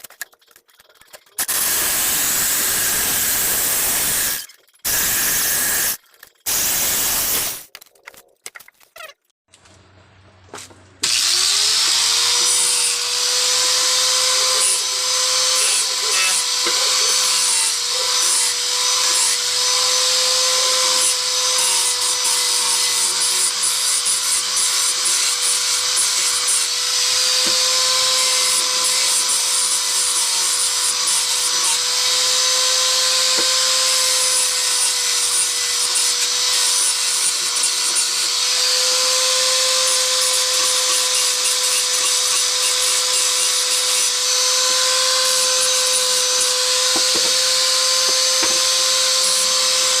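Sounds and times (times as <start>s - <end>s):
power tool whine: 1.4s - 7.6s, 11.0s - 50.0s.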